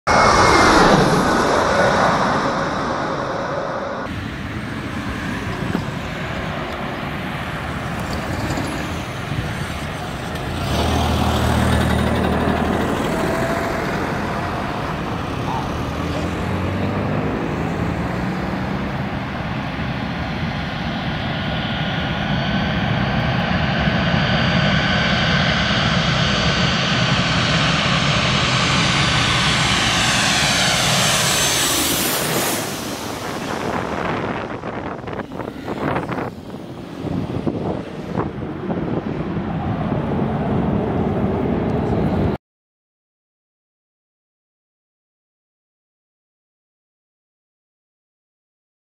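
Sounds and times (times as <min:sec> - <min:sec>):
jet engines rumble and whine: 0:00.1 - 0:42.4
outdoor background noise: 0:00.1 - 0:42.4.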